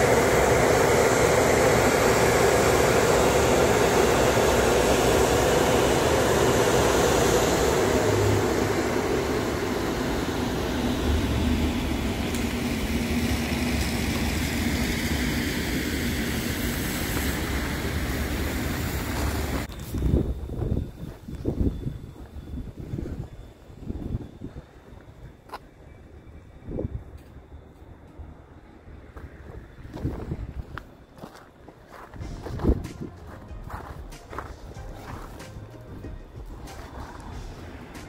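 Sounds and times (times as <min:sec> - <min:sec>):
dryer blowers rushing air: 0:00.0 - 0:25.3, 0:31.9 - 0:38.0.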